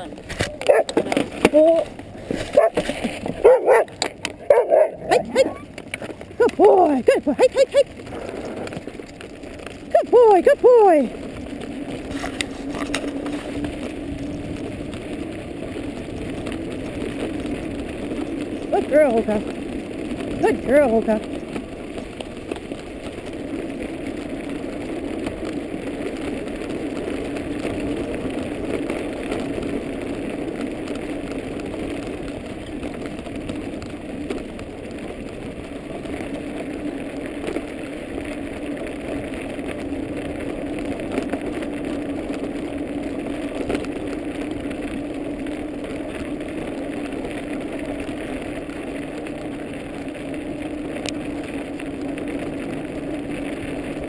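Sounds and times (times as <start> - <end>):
scooter wheels humming on snow: 0.0 - 54.0.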